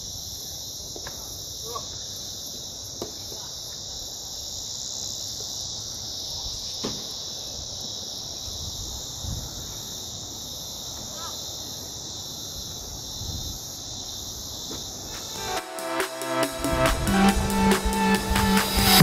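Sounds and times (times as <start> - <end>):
cicadas droning: 0.0 - 19.0.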